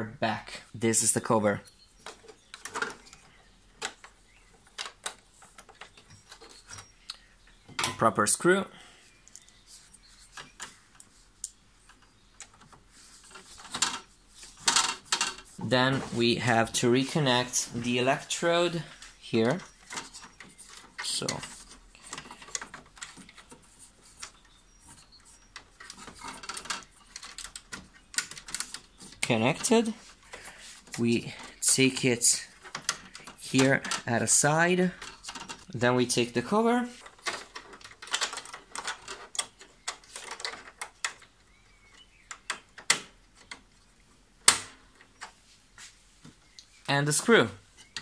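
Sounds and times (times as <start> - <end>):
plastic parts clicking and knocking: 1.7 - 8.3, 9.2 - 45.4, 46.2 - 48.0.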